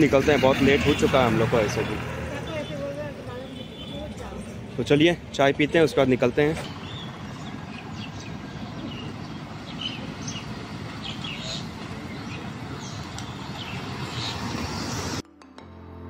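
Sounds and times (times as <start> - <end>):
birds chirping: 0.0 - 15.2
road traffic rumble: 0.0 - 15.2.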